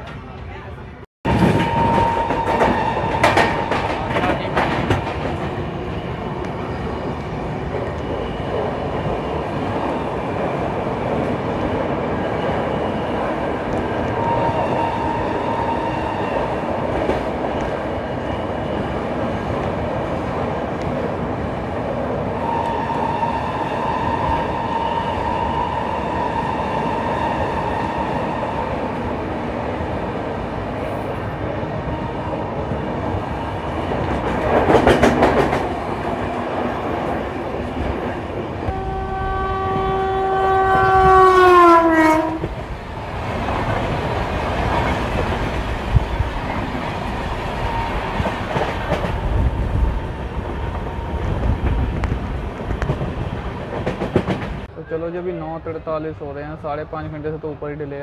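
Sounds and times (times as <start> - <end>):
train wheels rumbling on rails: 1.2 - 55.0.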